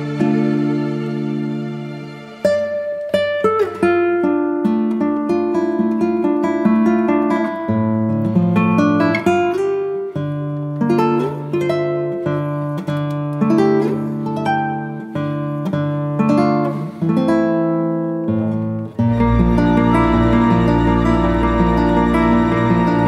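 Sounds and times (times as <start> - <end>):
plucked acoustic guitar: 0.0 - 23.0.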